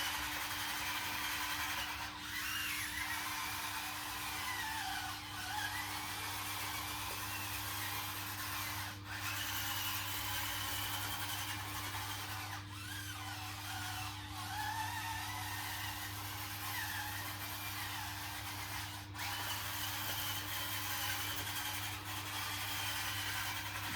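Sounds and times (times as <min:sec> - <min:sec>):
small electric motors whining: 0:00.0 - 0:23.9.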